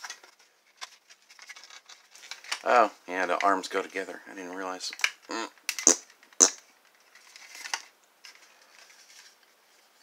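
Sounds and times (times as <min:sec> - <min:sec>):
rustling of plastic parts: 0:00.0 - 0:10.0.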